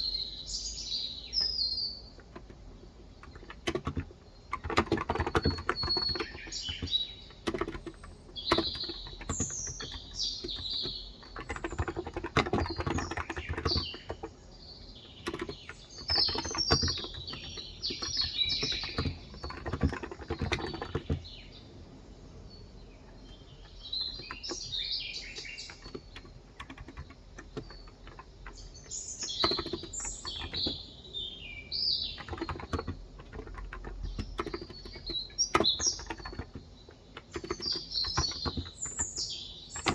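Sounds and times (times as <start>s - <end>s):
birds chirping: 0.0s - 39.9s
soft keyboard typing: 1.4s - 21.6s, 22.8s - 31.2s, 32.0s - 39.9s.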